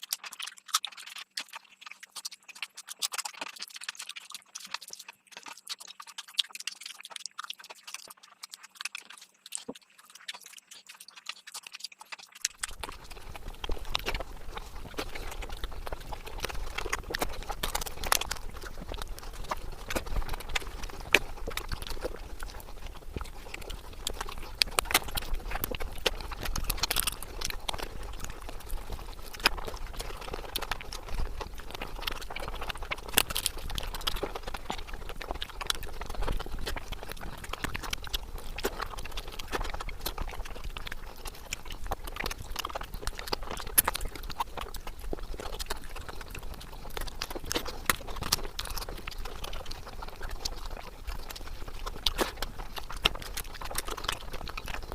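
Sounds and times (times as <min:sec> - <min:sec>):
wet mouth chewing: 0:00.0 - 0:54.9.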